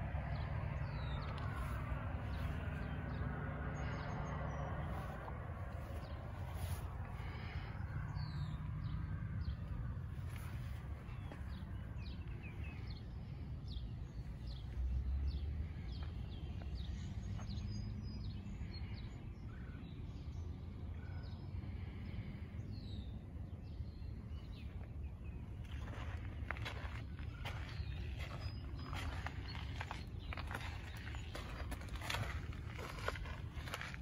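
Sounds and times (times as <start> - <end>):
steady low rumble: 0.0 - 18.2, 20.3 - 34.0
birds chirping: 0.0 - 34.0.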